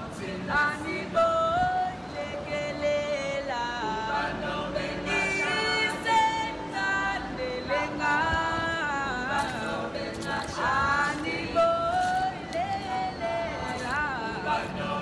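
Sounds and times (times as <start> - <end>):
person singing a slow ballad: 0.0 - 15.0.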